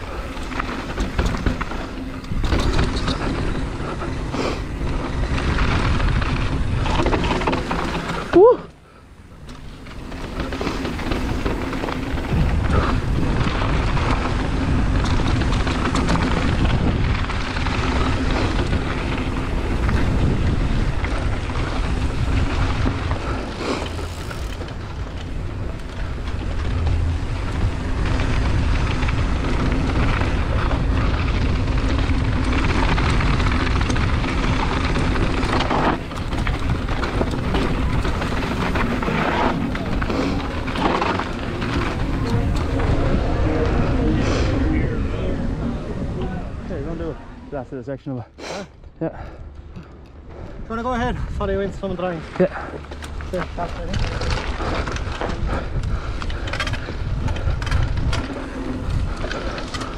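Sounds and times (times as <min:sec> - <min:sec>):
wind buffeting microphone: 0:00.0 - 0:08.5, 0:09.3 - 0:47.7, 0:49.2 - 0:59.9
mountain bike rattling and knocking: 0:00.0 - 0:42.8, 0:49.0 - 0:59.9
tyres rumbling on dirt: 0:00.0 - 0:48.2, 0:49.0 - 0:59.9.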